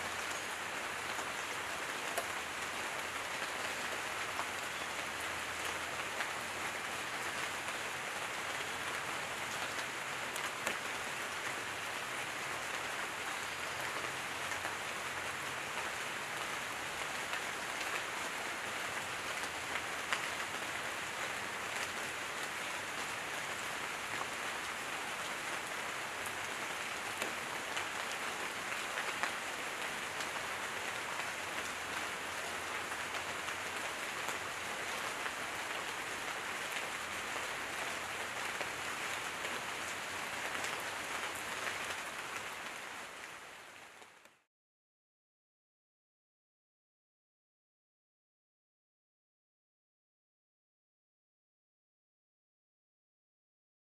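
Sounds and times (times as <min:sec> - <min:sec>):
light rain on leaves: 0:00.0 - 0:44.5.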